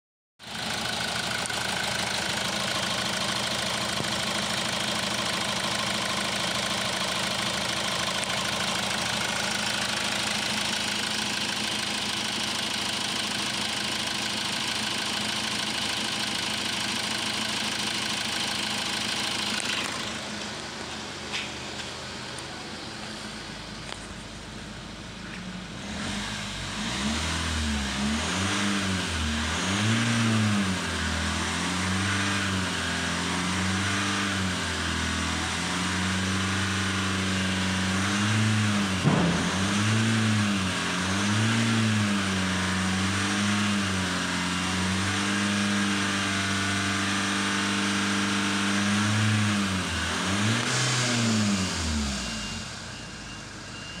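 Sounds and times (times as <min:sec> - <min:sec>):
diesel engine revving: 0:00.6 - 0:24.5, 0:25.6 - 0:53.0.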